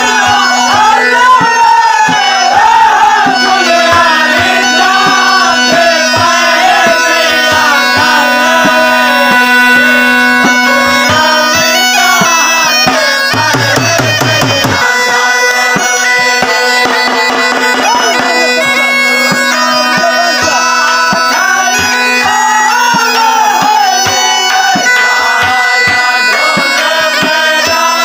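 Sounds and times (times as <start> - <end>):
drum beats: 0.0 - 28.0
reed pipe melody over drone: 0.0 - 28.0.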